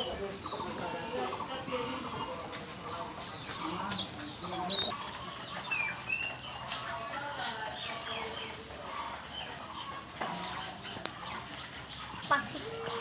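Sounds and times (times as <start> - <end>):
birds chirping and clucking: 0.0 - 13.0.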